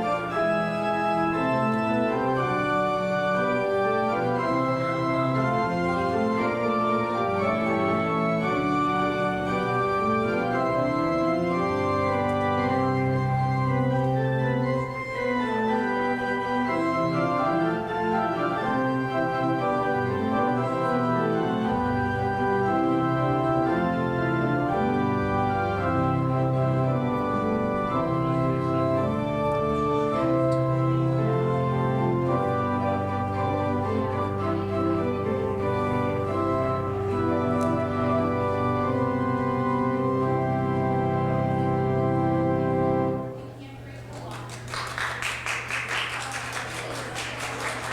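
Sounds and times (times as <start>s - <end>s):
church organ playing chords: 0.0s - 43.6s.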